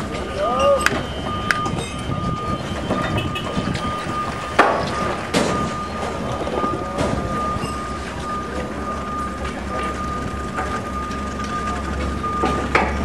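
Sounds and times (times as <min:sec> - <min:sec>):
forklift engine running: 0:00.0 - 0:13.0
steady high tone: 0:00.3 - 0:12.4.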